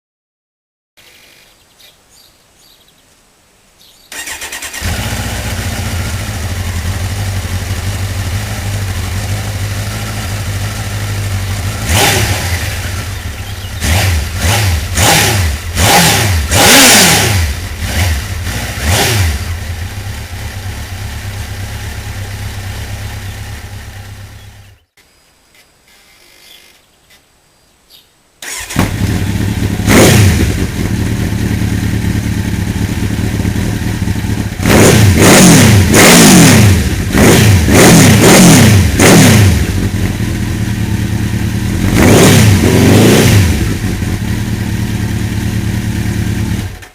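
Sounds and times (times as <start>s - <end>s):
motorcycle engine idling and revving: 4.1s - 25.0s, 28.4s - 46.9s.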